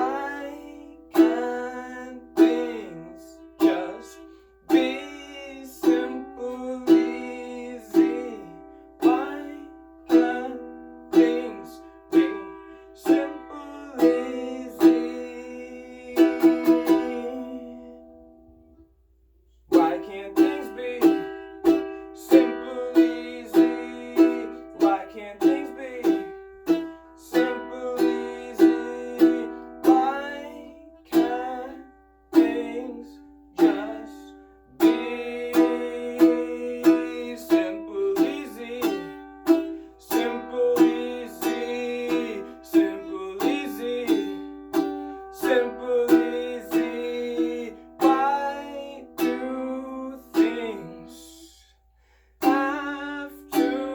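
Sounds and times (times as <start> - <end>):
ukulele strummed in chords: 0.0 - 18.8, 19.7 - 51.5, 52.4 - 53.9.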